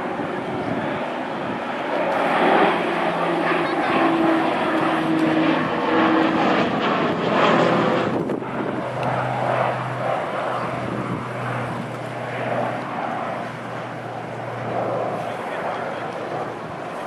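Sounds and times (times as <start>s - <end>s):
turboprop plane droning: 0.0s - 17.0s.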